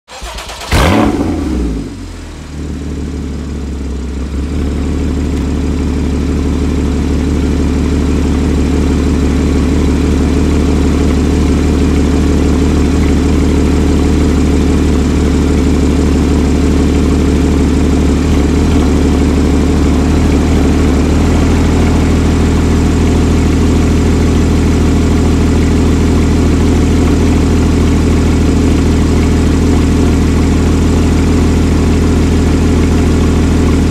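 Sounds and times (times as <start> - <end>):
car engine starting and idling: 0.1 - 33.9.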